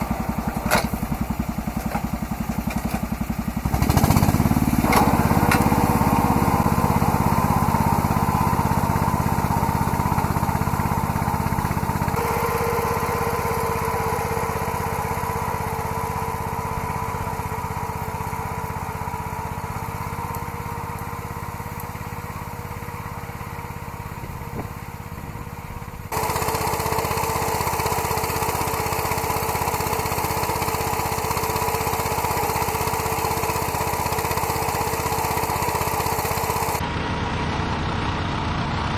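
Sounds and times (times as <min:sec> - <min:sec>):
small tractor engine running: 0:00.0 - 0:38.9.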